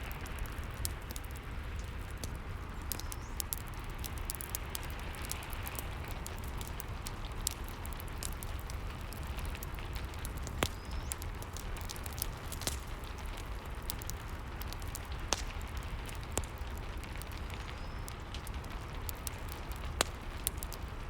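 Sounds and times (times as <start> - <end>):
burning wood crackling: 0.0 - 21.0.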